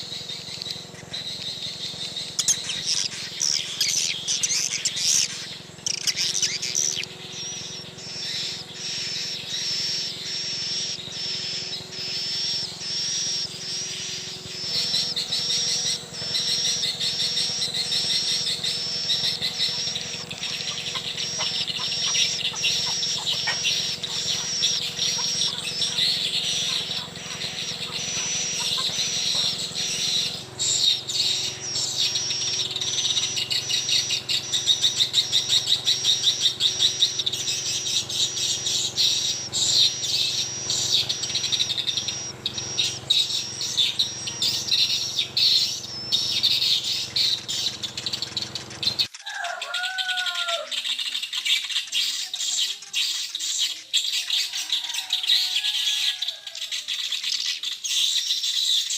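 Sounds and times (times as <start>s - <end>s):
steady low hum: 0.0s - 49.1s
lower gliding bird calls: 0.0s - 58.9s
rapid high-pitched bird chirping: 0.0s - 58.9s.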